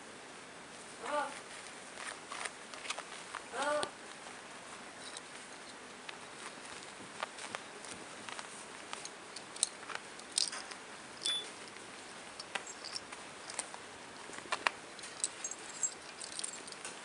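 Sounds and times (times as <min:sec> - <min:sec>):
kittens' paws scratching: 0:01.0 - 0:17.0.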